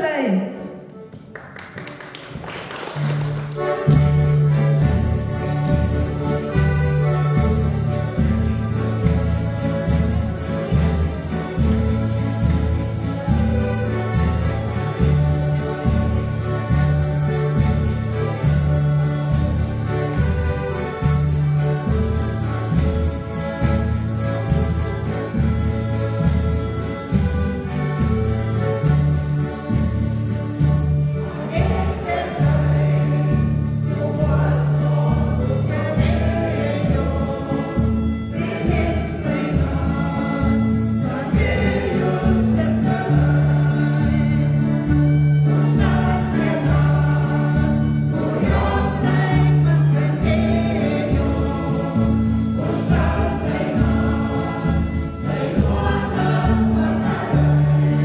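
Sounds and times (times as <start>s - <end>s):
folk band playing instrumental: 0.0s - 58.0s.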